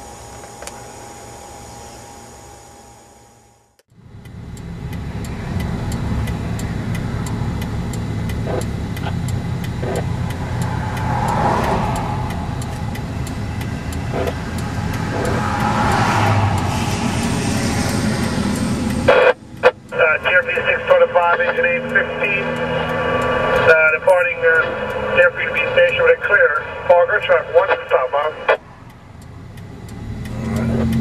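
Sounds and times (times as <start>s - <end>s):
car engine and road rumble: 0.0s - 31.0s
faint ticking: 4.2s - 31.0s.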